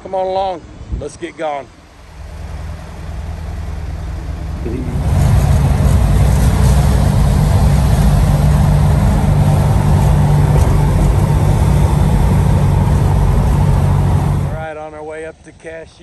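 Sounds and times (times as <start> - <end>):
road noise: 0.0 - 16.0
van engine droning: 1.7 - 14.9.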